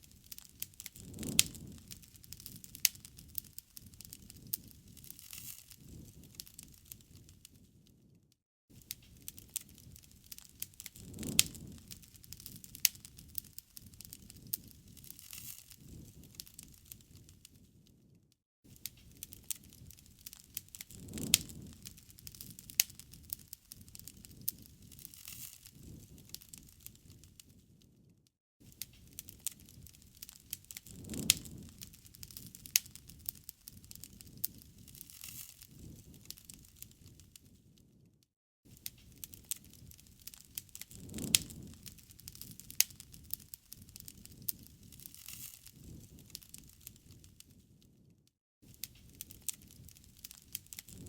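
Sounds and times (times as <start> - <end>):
low rush of flame: 0.0 - 8.2, 8.8 - 18.1, 18.7 - 27.8, 28.6 - 37.7, 38.7 - 47.7, 48.7 - 51.0
wood fire crackling and popping: 0.0 - 38.1, 38.7 - 48.1, 48.7 - 51.0.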